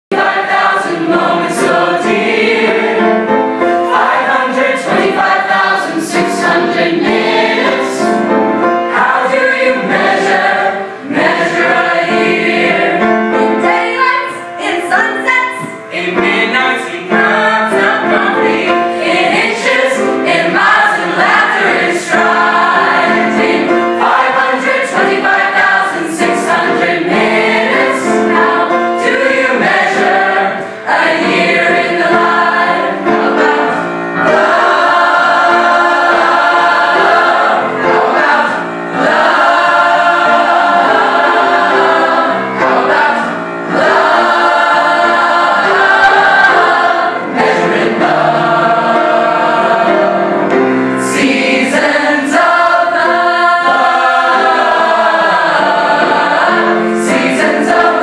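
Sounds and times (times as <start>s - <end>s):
choir singing in harmony: 0.1s - 58.0s.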